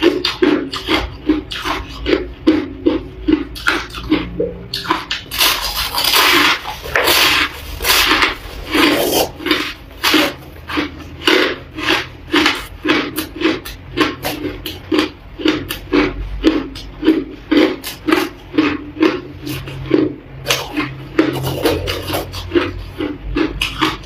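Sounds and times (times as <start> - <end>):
chewing crushed ice: 0.0 - 24.0.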